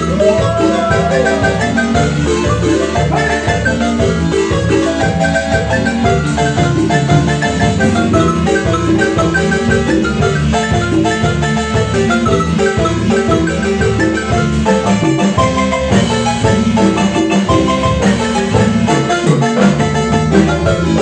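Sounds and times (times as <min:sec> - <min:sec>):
marimba music: 0:00.0 - 0:21.0.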